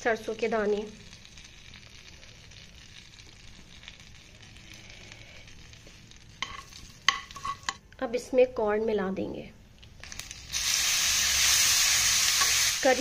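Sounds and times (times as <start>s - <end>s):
butter sizzling in a frying pan: 0.0s - 7.8s, 9.8s - 13.0s.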